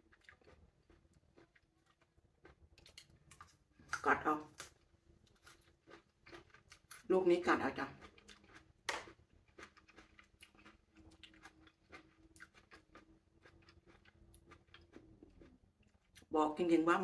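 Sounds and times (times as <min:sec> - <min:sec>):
faint chewing: 0:00.0 - 0:16.3.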